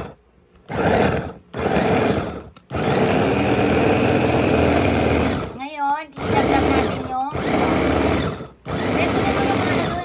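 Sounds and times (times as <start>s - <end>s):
electric food chopper motor: 0.0s - 10.0s.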